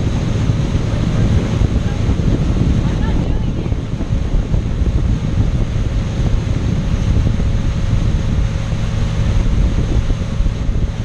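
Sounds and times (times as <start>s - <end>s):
boat motor running: 0.0s - 11.0s
rush of boat wake: 0.0s - 11.0s
wind rumbling on microphone: 0.0s - 11.0s.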